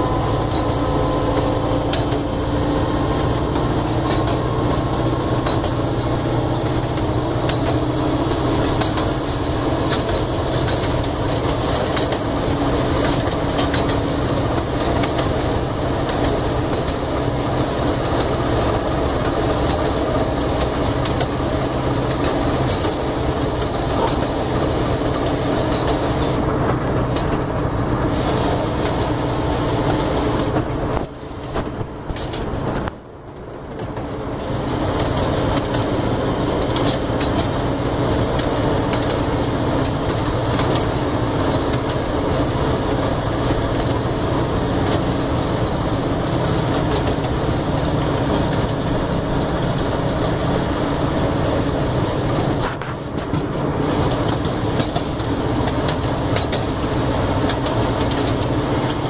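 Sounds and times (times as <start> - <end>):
small train rumble and rattle: 0.0 - 59.0
wheels clacking over rail joints: 0.0 - 59.0.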